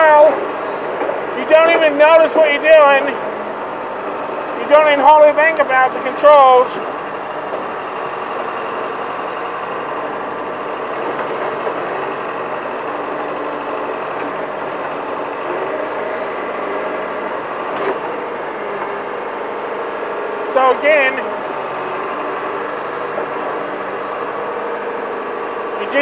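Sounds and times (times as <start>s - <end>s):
backhoe engine running: 0.0s - 26.0s.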